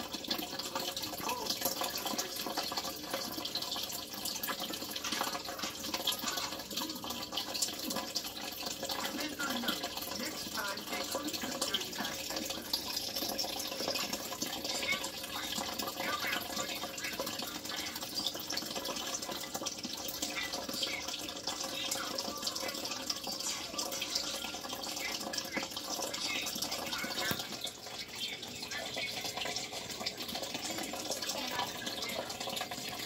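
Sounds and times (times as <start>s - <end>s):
small water drips: 0.0s - 33.0s
water trickling and splashing: 0.0s - 33.0s.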